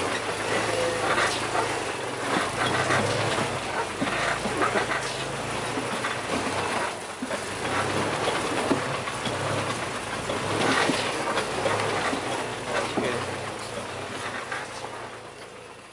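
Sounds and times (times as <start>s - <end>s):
low engine hum: 0.0s - 15.9s
vehicle body rattling and knocking: 0.0s - 15.9s.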